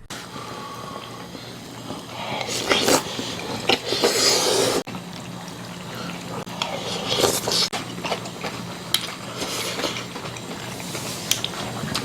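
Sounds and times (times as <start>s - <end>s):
stew bubbling in a pot: 0.1s - 12.0s.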